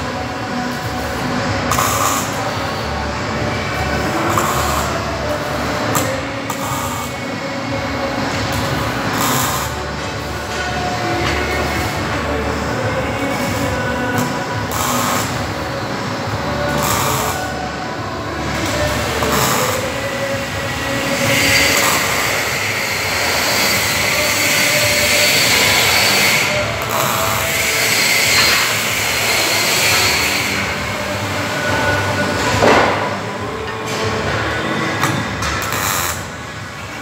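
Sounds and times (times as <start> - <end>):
welding arc crackling and hissing: 0.0 - 37.0.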